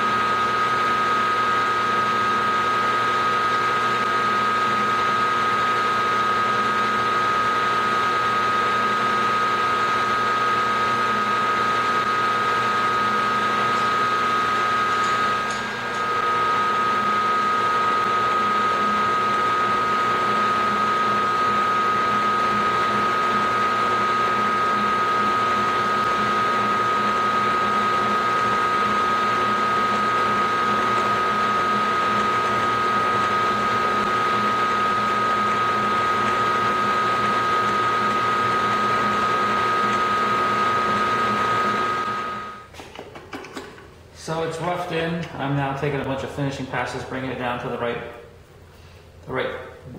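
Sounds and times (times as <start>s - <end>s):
end mill cutting metal: 0.0s - 42.6s
milling machine high whine: 0.0s - 42.7s.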